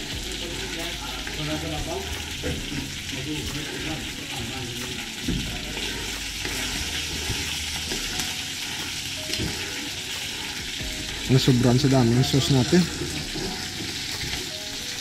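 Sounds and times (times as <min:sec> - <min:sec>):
spoon stirring a pot: 0:00.7 - 0:11.4, 0:12.3 - 0:14.8.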